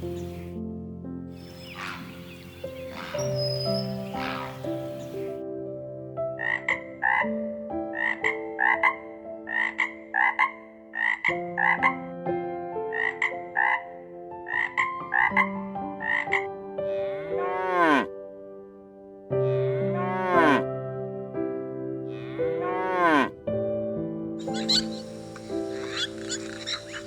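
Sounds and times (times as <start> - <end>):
soft background music: 0.0 - 27.0.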